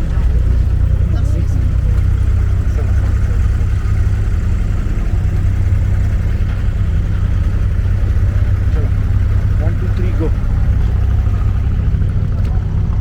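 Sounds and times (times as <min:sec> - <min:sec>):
boat diesel engine humming: 0:00.0 - 0:13.0.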